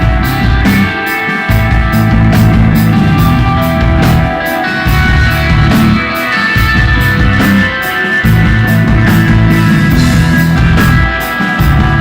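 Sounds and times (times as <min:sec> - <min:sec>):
bass guitar: 0:00.0 - 0:12.0
drums: 0:00.0 - 0:12.0
electric guitar sustained tones: 0:00.0 - 0:12.0.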